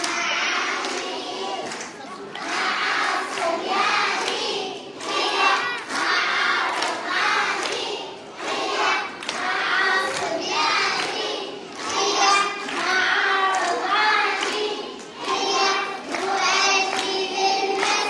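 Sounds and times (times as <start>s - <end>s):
children clapping: 0.0s - 18.0s
children singing together: 0.0s - 18.0s.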